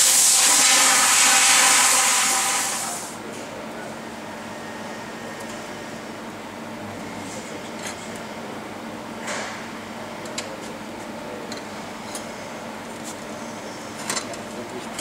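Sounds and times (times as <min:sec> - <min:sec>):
low workshop hum: 0:00.0 - 0:15.0.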